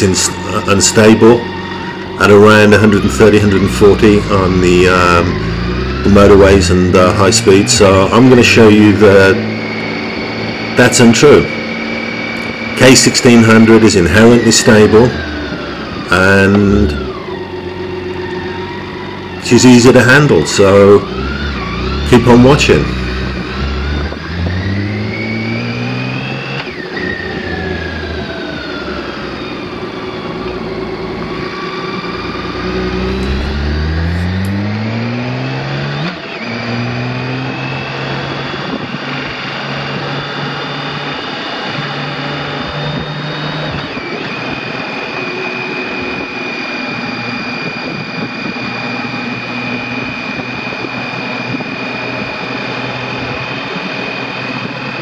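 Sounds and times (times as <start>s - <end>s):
motorcycle engine accelerating: 0.0s - 55.0s
thin high whine: 0.0s - 55.0s.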